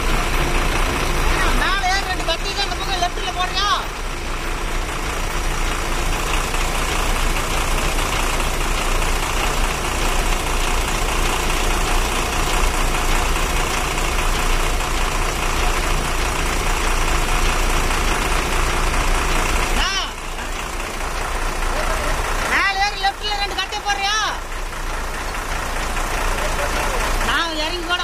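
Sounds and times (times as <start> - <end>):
lorry engine idling: 0.0 - 28.0.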